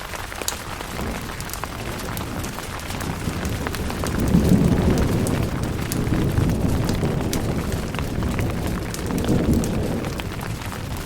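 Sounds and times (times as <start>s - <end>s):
rain on a tent: 0.0s - 11.0s
thunder rumble: 0.0s - 11.0s.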